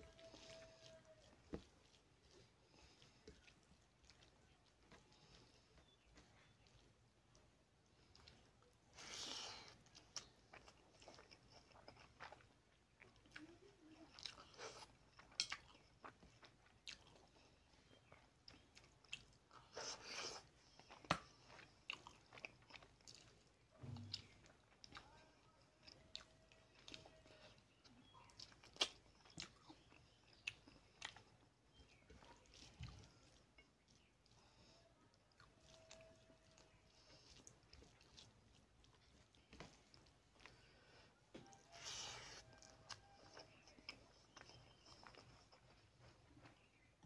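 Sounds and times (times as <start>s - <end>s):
man chewing with wet clicks: 0.0s - 47.0s.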